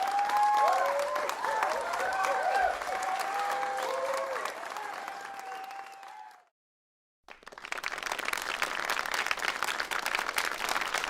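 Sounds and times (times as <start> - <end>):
crowd applause: 0.0 - 6.5, 7.3 - 11.0.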